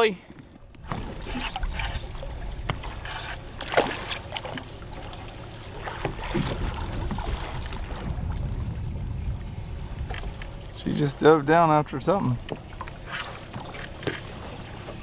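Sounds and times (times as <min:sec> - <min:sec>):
sea noise: 0:00.0 - 0:15.0
wind: 0:00.0 - 0:15.0
low rumble: 0:00.6 - 0:13.8
water splashes: 0:00.8 - 0:15.0.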